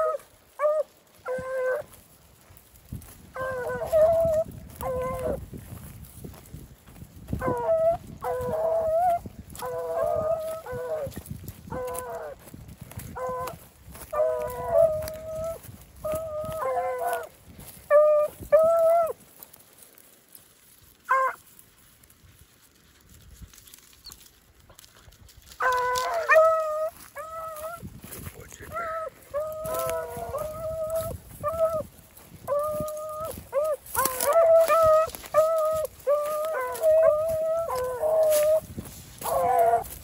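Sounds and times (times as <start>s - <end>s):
hounds baying: 0.0s - 19.5s, 21.0s - 21.5s, 24.1s - 40.0s.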